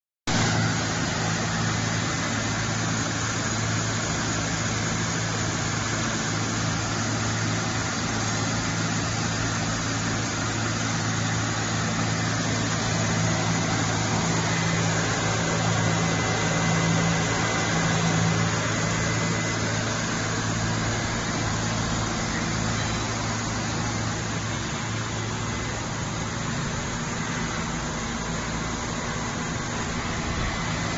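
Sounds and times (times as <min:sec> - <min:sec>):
printing machine humming: 0:00.3 - 0:30.9.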